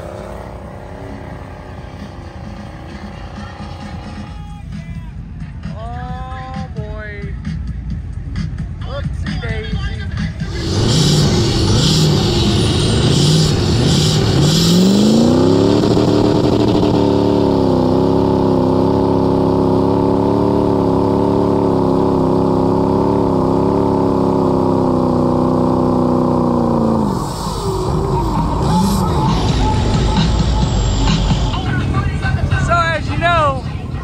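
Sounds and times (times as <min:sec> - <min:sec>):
truck engine revving: 0:00.0 - 0:05.8, 0:07.4 - 0:34.0.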